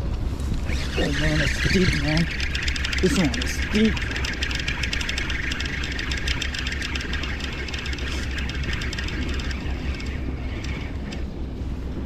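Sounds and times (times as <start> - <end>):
steady low rumble: 0.0 - 12.0
spinning reel clicking: 0.6 - 11.2.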